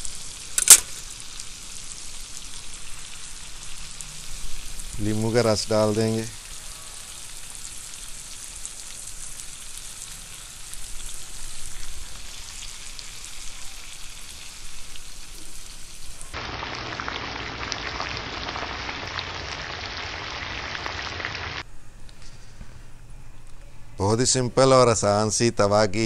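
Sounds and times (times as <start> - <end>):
food sizzling on a griddle: 0.0 - 21.6.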